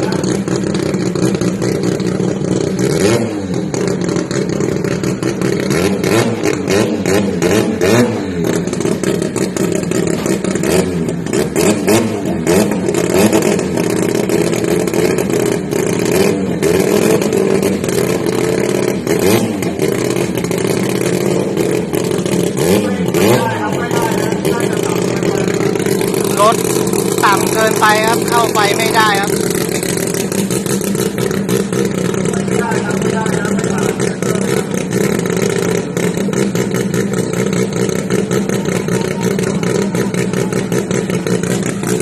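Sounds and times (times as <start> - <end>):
rotary engine revving and crackling: 0.0 - 42.0.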